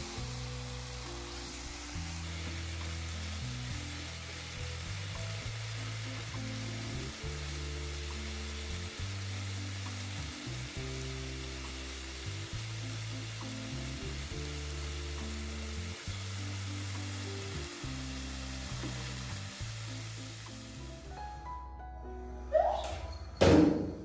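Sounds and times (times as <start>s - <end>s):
food sizzling in a pan: 0.0s - 21.5s
background music with low notes: 0.0s - 24.0s.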